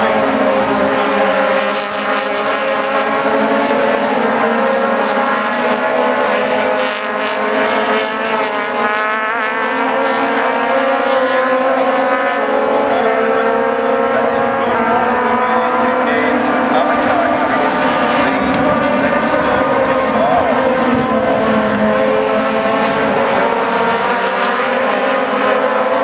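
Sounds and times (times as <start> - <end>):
racing car engines howling: 0.0 - 26.0.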